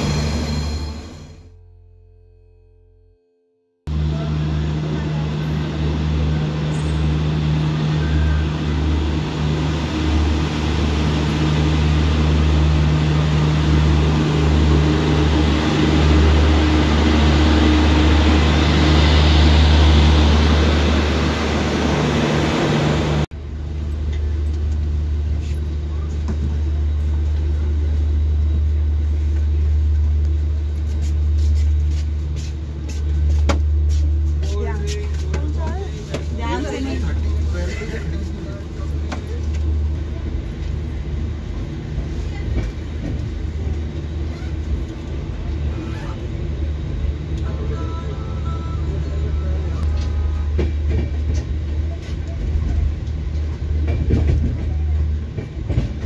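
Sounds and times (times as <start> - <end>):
train coach rumble: 3.9 - 56.0.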